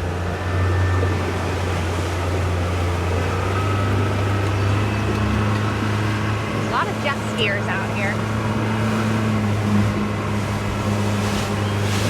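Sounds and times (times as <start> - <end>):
motorboat engine humming: 0.0 - 12.0
water rushing against hull: 0.0 - 12.0.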